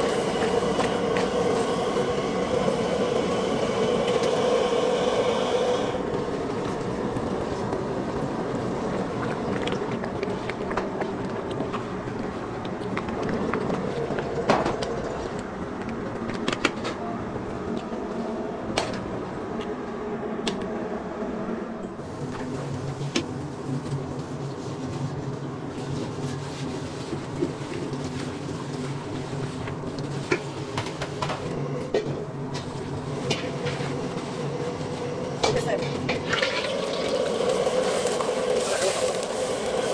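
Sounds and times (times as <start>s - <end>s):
kitchen steady rush: 0.0s - 18.4s, 22.0s - 39.9s.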